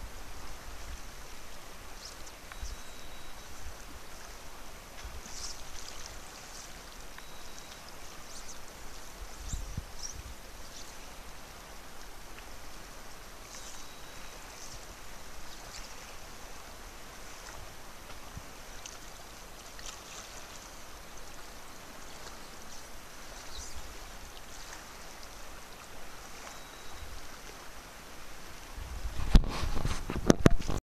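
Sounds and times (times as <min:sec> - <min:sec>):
river rushing over shallows: 0:00.0 - 0:30.8.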